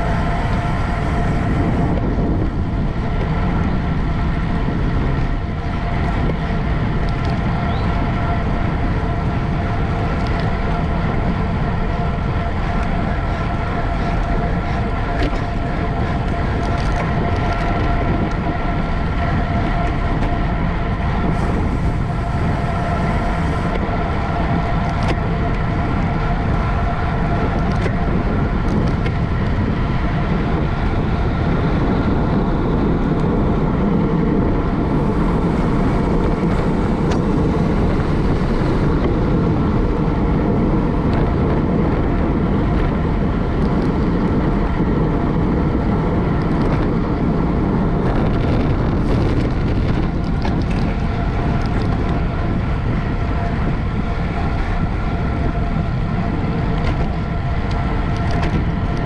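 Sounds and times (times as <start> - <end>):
thin whine: 0.0 - 59.0
wind and road noise: 0.0 - 59.0.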